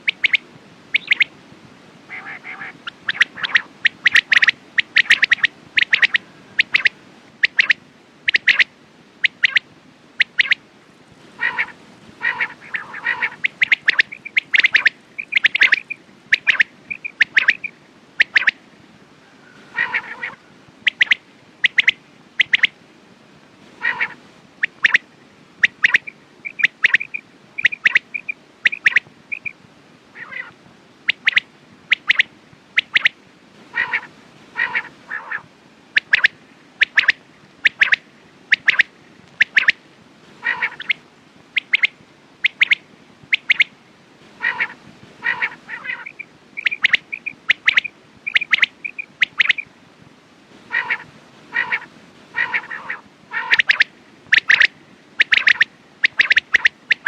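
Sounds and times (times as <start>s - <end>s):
lower rougher bird calls: 0.0s - 1.3s, 2.1s - 9.6s, 11.4s - 18.6s, 19.2s - 22.7s, 23.8s - 25.0s, 25.6s - 29.6s, 30.2s - 33.1s, 33.7s - 39.8s, 40.4s - 41.0s, 44.4s - 49.7s, 50.7s - 57.0s
quail chirping: 0.0s - 1.3s, 2.1s - 9.6s, 10.2s - 10.6s, 11.4s - 18.6s, 19.5s - 22.7s, 23.8s - 25.0s, 25.6s - 29.6s, 30.2s - 30.5s, 31.1s - 39.8s, 40.4s - 41.0s, 41.6s - 43.7s, 44.4s - 49.7s, 50.7s - 57.0s.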